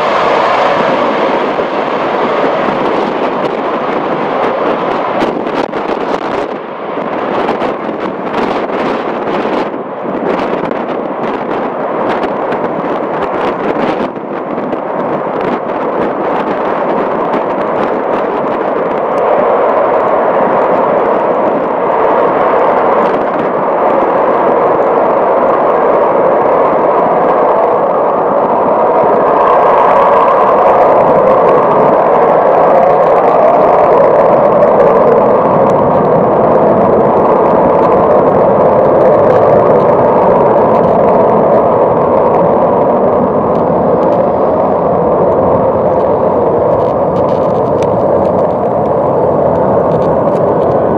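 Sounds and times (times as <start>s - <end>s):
jet engines roaring on take-off: 0.0s - 50.9s.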